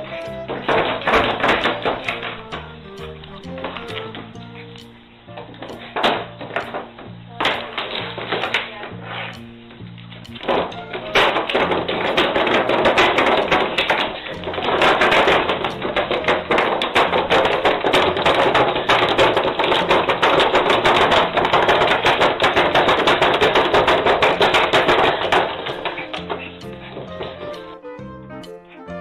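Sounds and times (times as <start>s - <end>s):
plastic crinkling: 0.0s - 4.4s, 5.4s - 27.5s.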